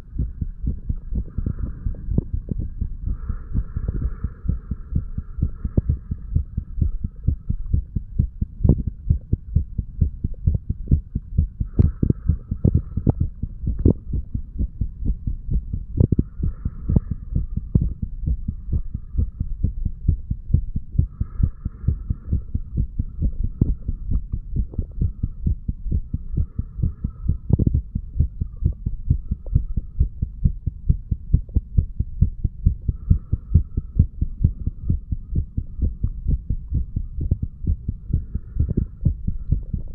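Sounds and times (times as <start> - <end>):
heartbeat thumps: 0.0 - 39.9
low hum: 0.0 - 39.9.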